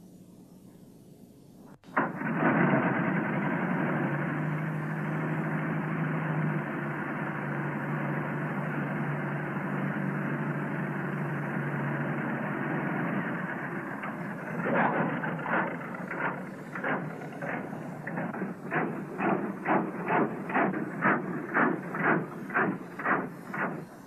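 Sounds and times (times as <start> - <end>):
old car engine starting and running: 1.8 - 24.0.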